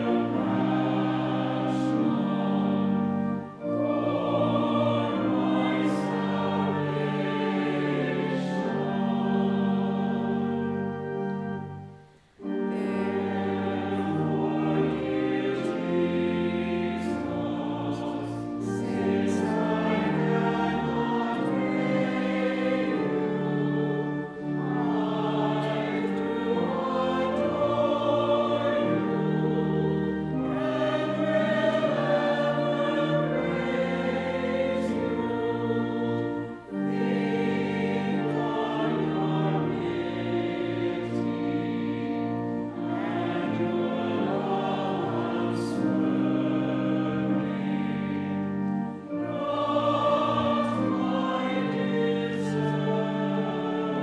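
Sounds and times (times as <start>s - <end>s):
choir and congregation singing a hymn: 0.0s - 54.0s
pipe organ: 0.0s - 54.0s.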